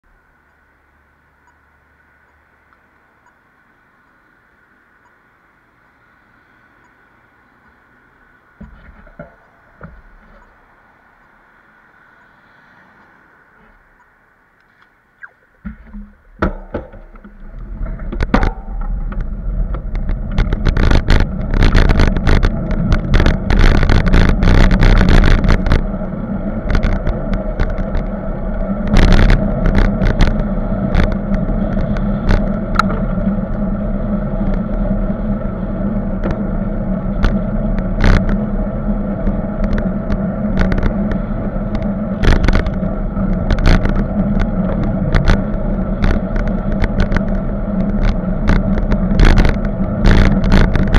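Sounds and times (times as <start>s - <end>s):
road and wind rumble: 0.0s - 50.9s.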